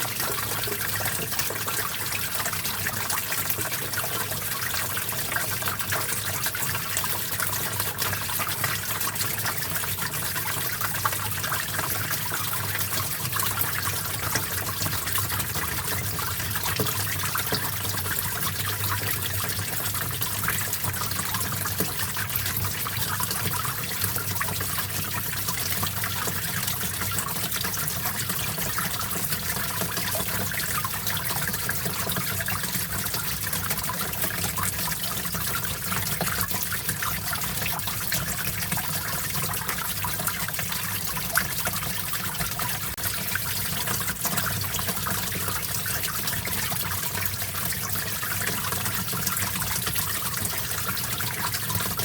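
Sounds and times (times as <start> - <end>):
stream water trickling over rocks: 0.0 - 52.0.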